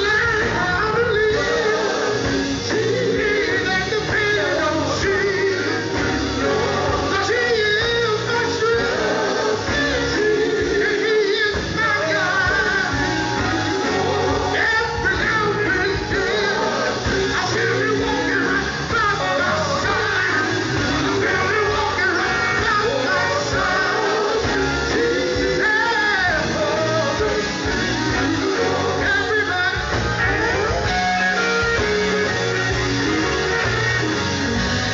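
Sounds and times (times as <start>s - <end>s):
band playing: 0.0s - 34.9s
vocal group singing gospel: 0.0s - 34.9s.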